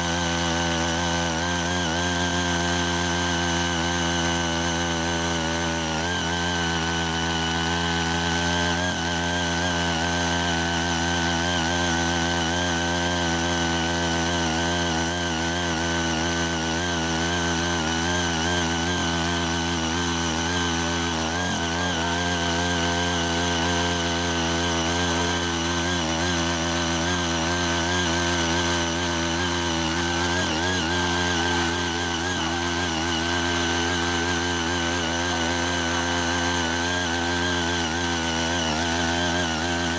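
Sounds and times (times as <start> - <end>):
tiller engine running: 0.0 - 39.9
tines churning soil: 0.0 - 39.9.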